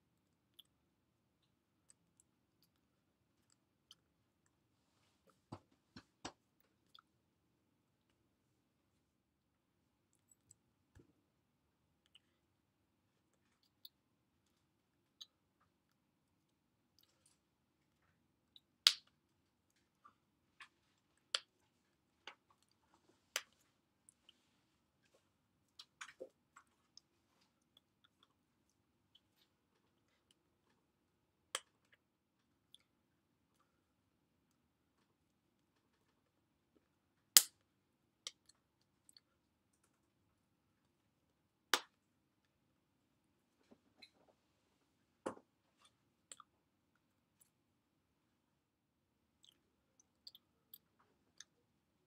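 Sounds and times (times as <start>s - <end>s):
faint room hum: 0.0s - 52.0s.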